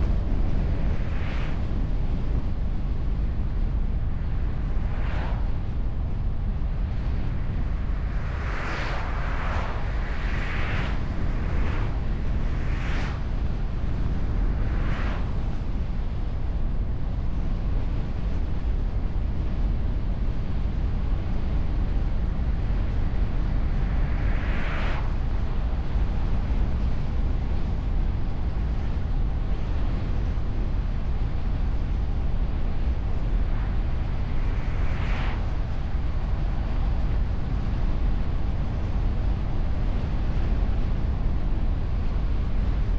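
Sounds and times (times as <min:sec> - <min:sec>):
road and wind rumble: 0:00.0 - 0:42.9.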